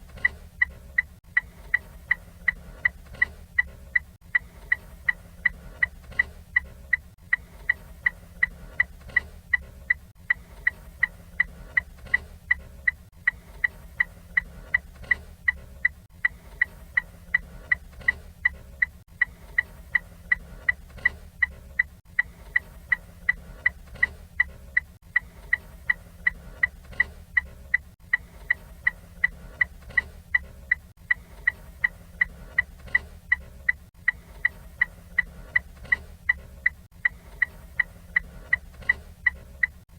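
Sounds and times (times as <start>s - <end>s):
turn signal ticking: 0.0s - 39.9s.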